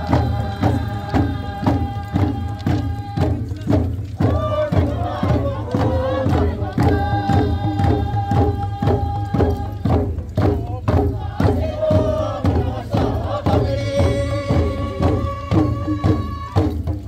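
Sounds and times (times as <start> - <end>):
group of voices chanting: 0.0 - 9.9, 10.5 - 16.8
hand drums beating: 0.0 - 17.0.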